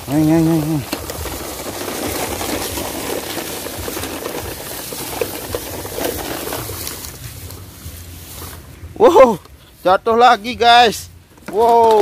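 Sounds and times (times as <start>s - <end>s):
toy trucks rustling over leaves: 0.0s - 12.0s.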